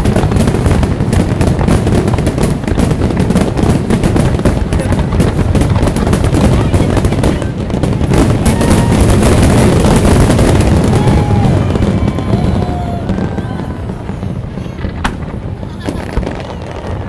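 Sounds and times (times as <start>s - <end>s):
fireworks crackling and booming: 0.0s - 17.0s
fireworks whistles: 0.0s - 17.0s.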